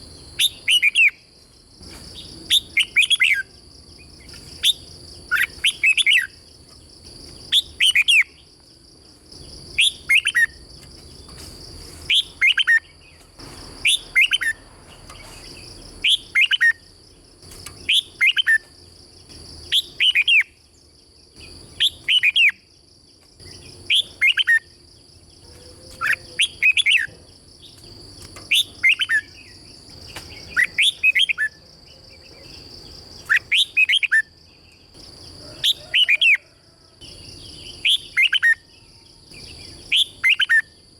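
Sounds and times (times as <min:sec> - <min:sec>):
bulbul singing: 0:00.0 - 0:01.3, 0:02.1 - 0:08.5, 0:09.4 - 0:11.4, 0:12.0 - 0:16.9, 0:17.5 - 0:22.8, 0:23.4 - 0:40.9.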